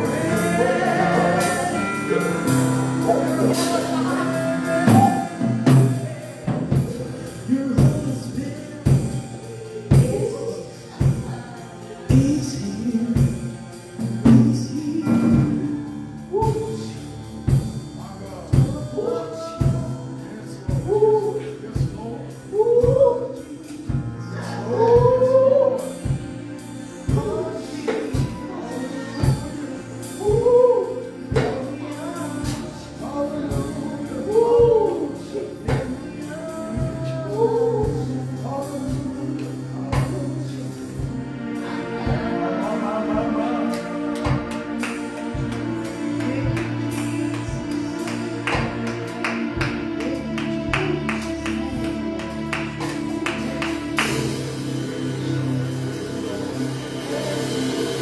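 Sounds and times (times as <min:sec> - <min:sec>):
steady drum beat: 0:00.0 - 0:24.3, 0:24.9 - 0:58.0
bass: 0:00.0 - 0:58.0
keyboard chords: 0:00.0 - 0:58.0
person singing gospel: 0:00.0 - 0:58.0.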